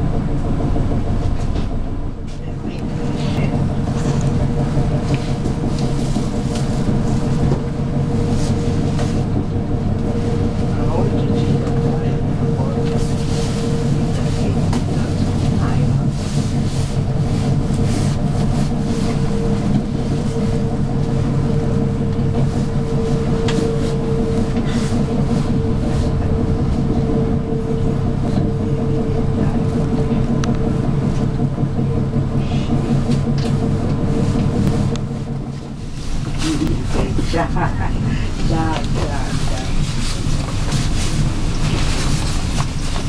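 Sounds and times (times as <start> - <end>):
constant hum: 0.0 - 43.0
train rumble: 0.0 - 43.0.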